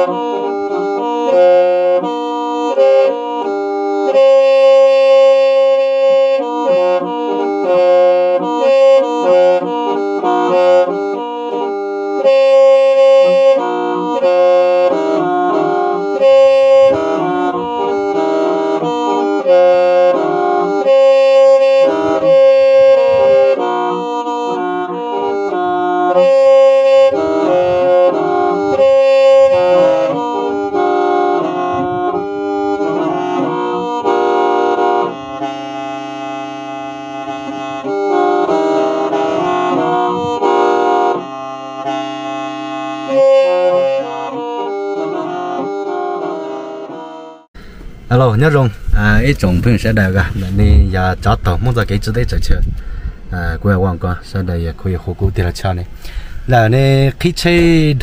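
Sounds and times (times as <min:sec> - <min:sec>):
reedy wind instrument melody: 0:00.0 - 0:51.9
sustained backing notes: 0:00.0 - 0:58.0.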